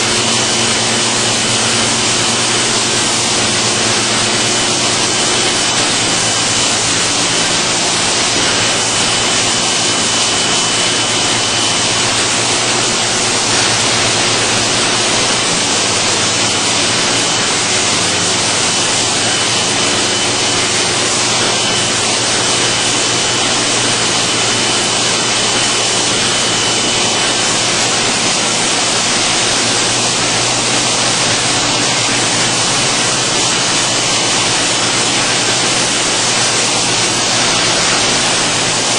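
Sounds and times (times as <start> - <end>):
faint high whine: 0.0 - 38.9
low motor hum: 0.0 - 38.9
rush of water and air: 0.0 - 38.9.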